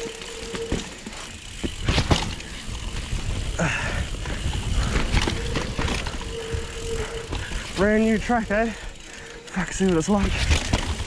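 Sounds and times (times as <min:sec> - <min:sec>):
bike knocks and rattles: 0:00.0 - 0:08.4, 0:09.7 - 0:11.0
bike tyres rumbling on dirt: 0:00.0 - 0:11.0.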